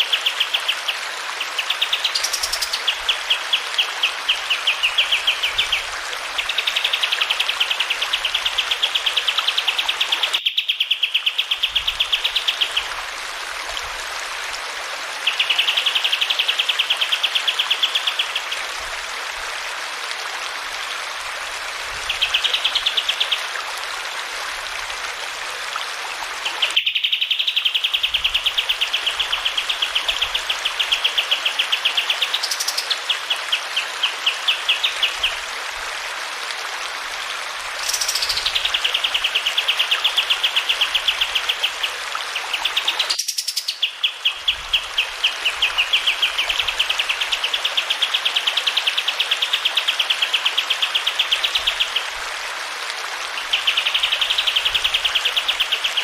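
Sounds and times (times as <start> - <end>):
running water rushing: 0.0 - 10.4, 11.0 - 56.0.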